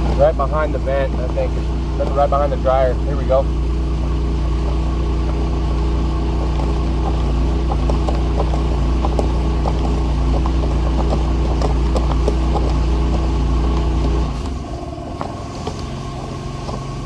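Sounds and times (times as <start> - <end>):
debris ticking and rattling in duct: 0.0 - 17.0
electric motor humming: 0.0 - 17.0.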